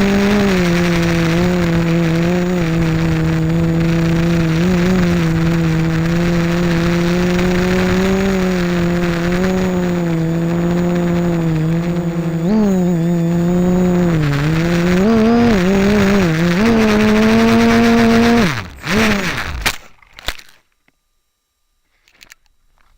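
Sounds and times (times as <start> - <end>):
quadcopter motors humming: 0.0 - 20.4.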